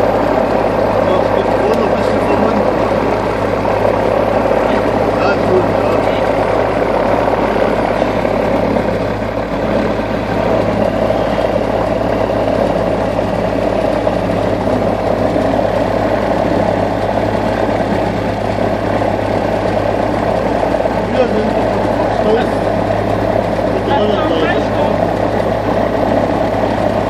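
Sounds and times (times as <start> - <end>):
light aircraft engine droning: 0.0 - 27.0.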